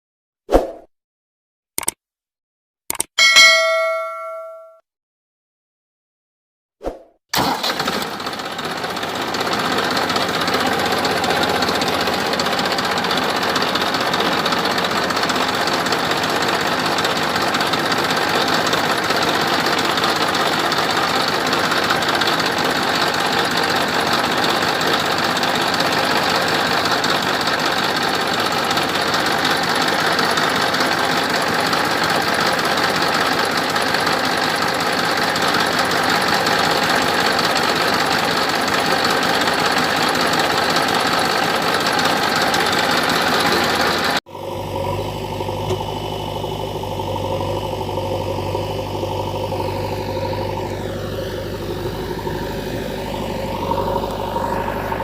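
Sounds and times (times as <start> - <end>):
engine running steadily: 7.4 - 55.0.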